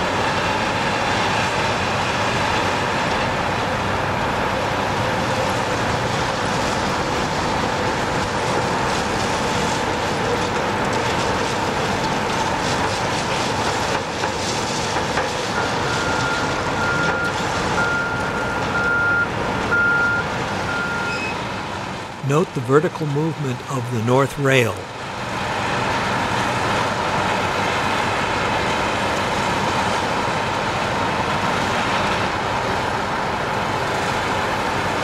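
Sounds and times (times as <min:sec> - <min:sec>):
diesel machinery running: 0:00.0 - 0:35.0.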